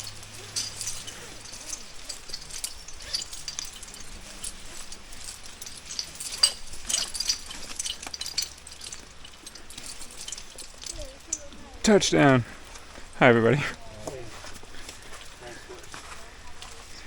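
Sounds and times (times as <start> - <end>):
climbing gear clinking: 0.0 - 17.0.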